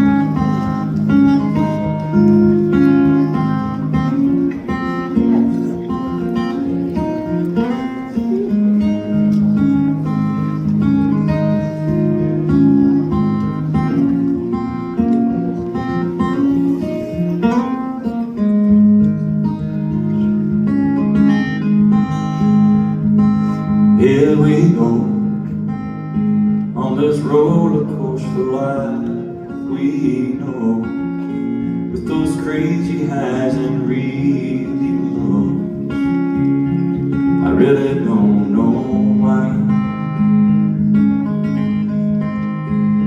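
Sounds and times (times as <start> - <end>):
acoustic guitar strummed and picked: 0.0 - 43.0.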